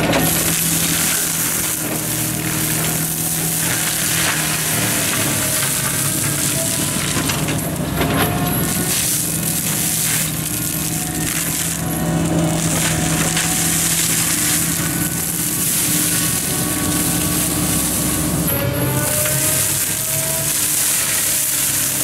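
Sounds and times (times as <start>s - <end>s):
excavator engine humming: 0.0s - 22.0s
mulcher rotor grinding brush: 0.0s - 22.0s.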